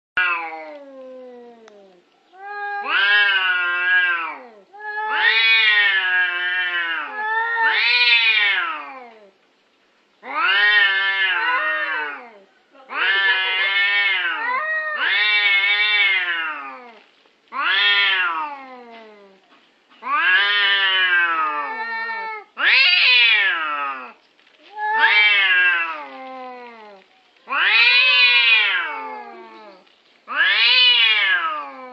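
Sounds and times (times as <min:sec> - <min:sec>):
cats yowling: 0:00.2 - 0:09.3, 0:10.2 - 0:19.4, 0:20.0 - 0:31.9.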